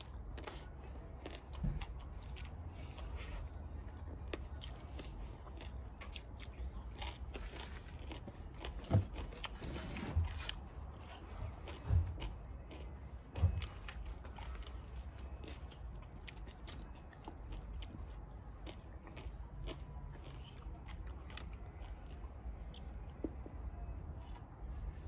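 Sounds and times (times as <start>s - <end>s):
chewing food: 0.0s - 25.0s.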